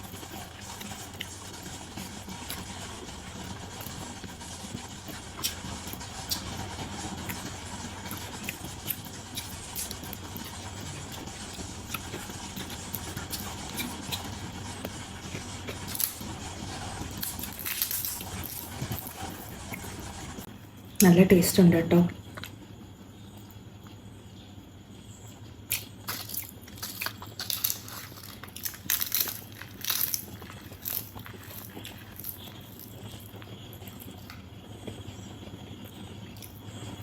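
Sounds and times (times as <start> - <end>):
person eating with crunches: 0.0 - 21.0, 22.2 - 37.0
steady background hum: 0.0 - 37.0.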